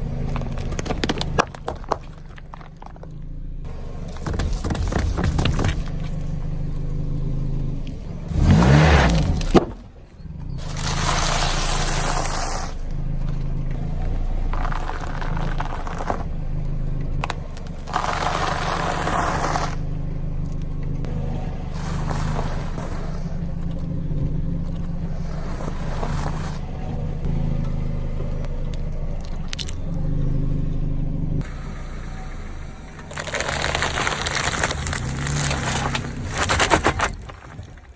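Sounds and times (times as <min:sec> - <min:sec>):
tyres crushing objects: 0:00.0 - 0:30.4, 0:32.2 - 0:37.9
car engine running: 0:00.0 - 0:37.9.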